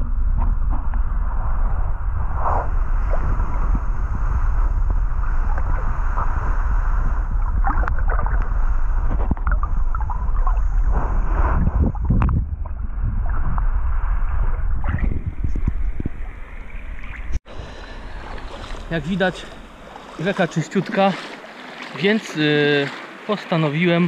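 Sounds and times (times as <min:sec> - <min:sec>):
muffled underwater river rumble: 0:00.0 - 0:21.0.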